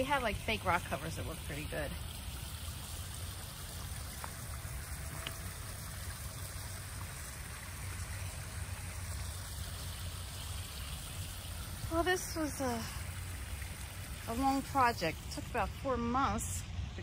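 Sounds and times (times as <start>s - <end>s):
water running and trickling: 0.0s - 17.0s.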